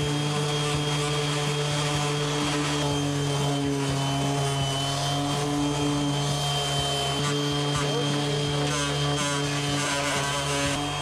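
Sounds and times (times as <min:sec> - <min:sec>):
power tool polishing metal: 0:00.0 - 0:11.0.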